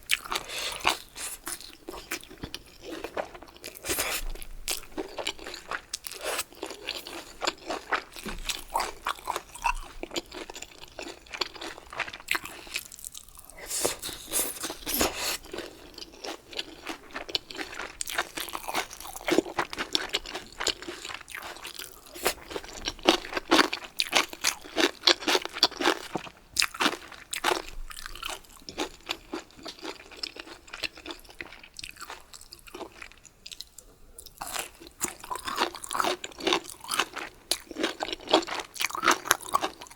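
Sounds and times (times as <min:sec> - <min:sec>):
crunchy chewing: 0:00.1 - 0:39.9.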